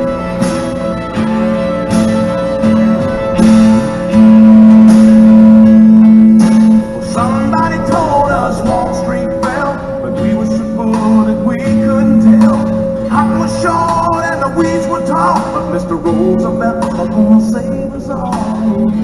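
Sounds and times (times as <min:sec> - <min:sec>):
guitar-led country instrumental: 0:00.0 - 0:19.0
steady hum: 0:00.0 - 0:19.0.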